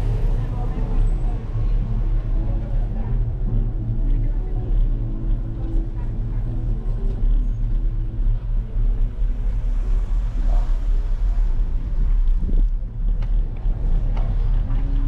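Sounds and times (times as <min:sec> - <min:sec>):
faint voices of pedestrians: 0:00.0 - 0:15.0
tyres rolling on asphalt: 0:00.0 - 0:15.0.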